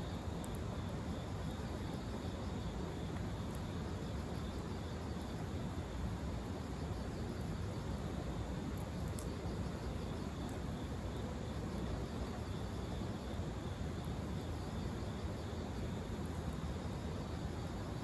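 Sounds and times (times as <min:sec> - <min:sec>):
faint fire crackles: 0:00.0 - 0:18.0.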